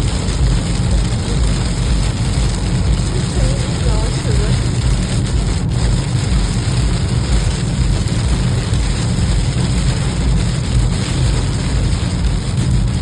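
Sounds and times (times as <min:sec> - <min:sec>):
car rumbling on the move: 0:00.0 - 0:13.0
rain hissing: 0:00.0 - 0:13.0.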